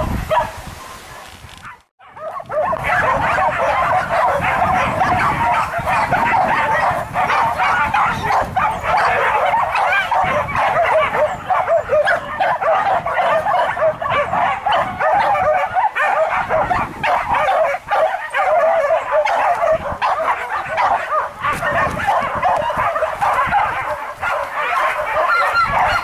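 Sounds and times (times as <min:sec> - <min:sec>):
dogs yelping and whining: 0:01.6 - 0:26.0.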